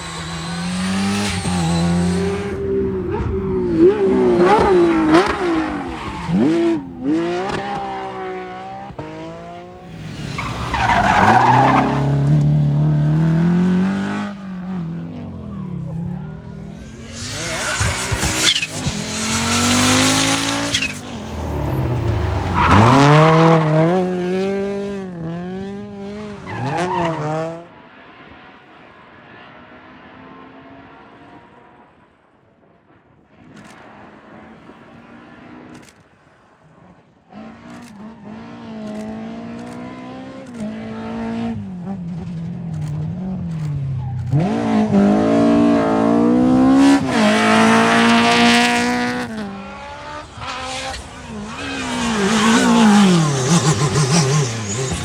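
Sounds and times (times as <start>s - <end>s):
rally car engines revving: 0.0s - 27.7s, 33.4s - 55.0s.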